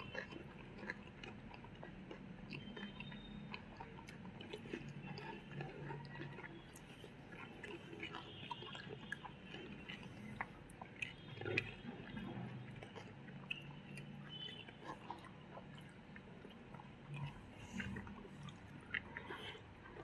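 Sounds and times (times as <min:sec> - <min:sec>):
chewing and wet mouth sounds: 0:00.0 - 0:20.0.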